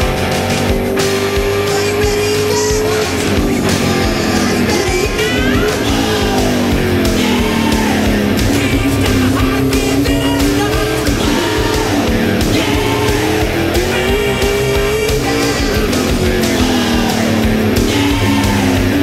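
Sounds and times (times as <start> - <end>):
guitar: 0.0 - 19.0
loud rock music: 0.0 - 19.0
person singing: 0.0 - 19.0.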